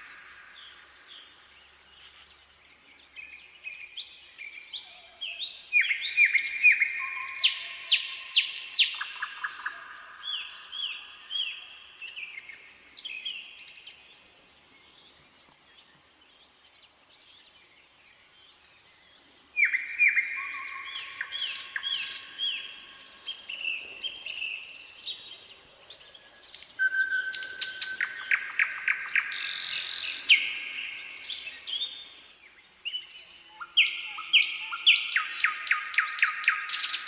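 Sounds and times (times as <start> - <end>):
nightingale singing: 0.0 - 37.0.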